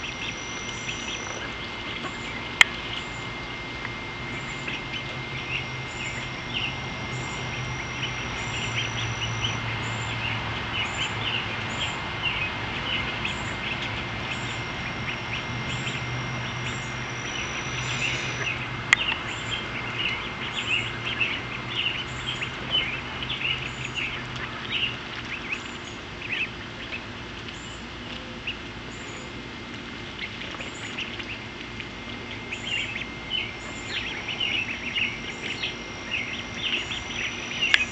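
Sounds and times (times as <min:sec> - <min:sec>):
ducklings peeping: 0:00.0 - 0:37.9.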